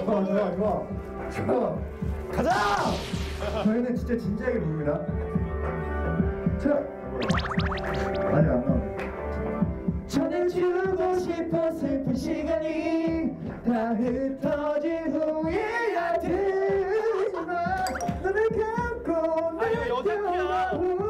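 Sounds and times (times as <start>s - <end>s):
karaoke backing track: 0.0s - 21.0s.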